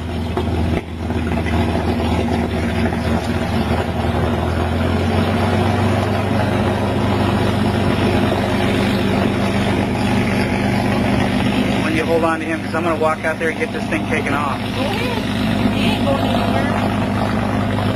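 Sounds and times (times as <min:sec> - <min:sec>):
aircraft engine droning: 0:00.0 - 0:17.9.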